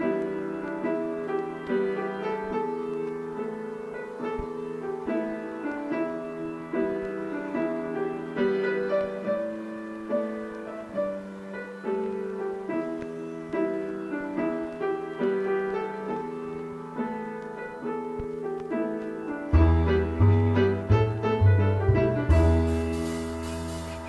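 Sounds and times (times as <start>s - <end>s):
jazz piano chords: 0.0s - 24.0s.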